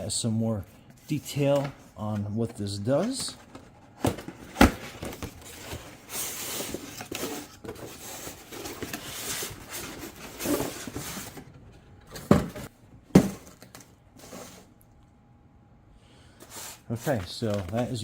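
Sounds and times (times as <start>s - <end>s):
box packaging rustling: 1.0s - 14.7s, 16.4s - 18.0s.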